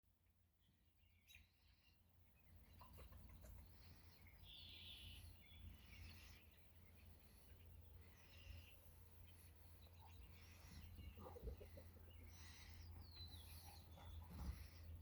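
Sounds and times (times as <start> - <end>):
faint bird chirps: 0.4 - 15.0.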